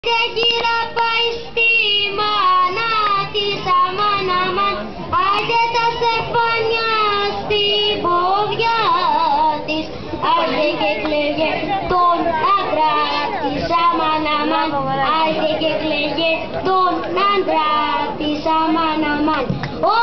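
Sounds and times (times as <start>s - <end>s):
children singing a folk song: 0.0s - 20.0s.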